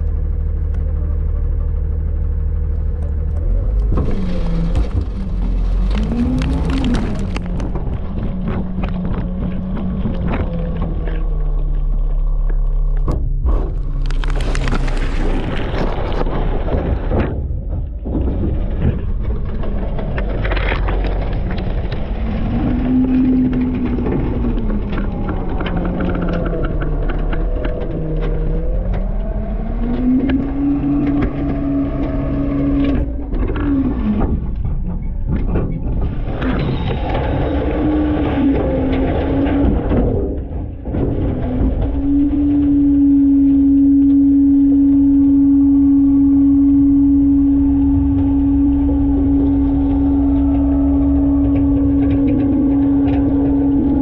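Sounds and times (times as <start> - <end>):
garbage truck engine revving: 0.0 - 34.6, 36.6 - 54.0.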